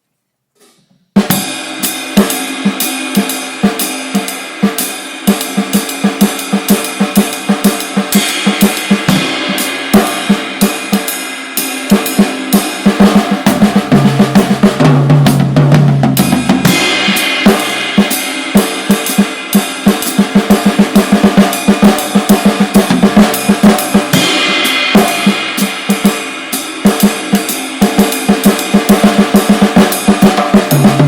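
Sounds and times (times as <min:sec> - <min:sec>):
cymbals: 0:00.6 - 0:31.0
jazz drum kit: 0:00.6 - 0:31.0.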